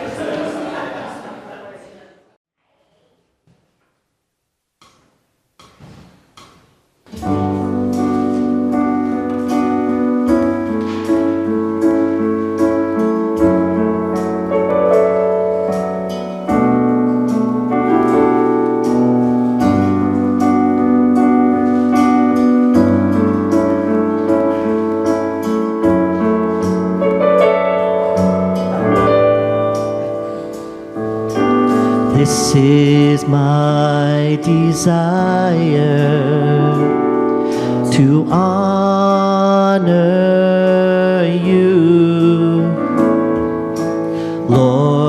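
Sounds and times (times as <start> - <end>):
slow chordal piano with bass line: 7.2 - 45.0.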